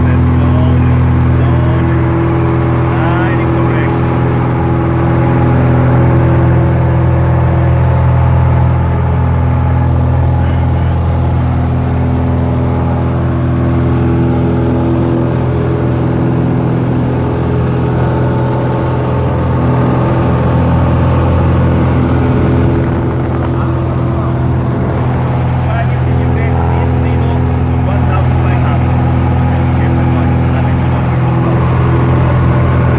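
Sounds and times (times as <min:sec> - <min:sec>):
propeller plane engine drone: 0:00.0 - 0:32.9.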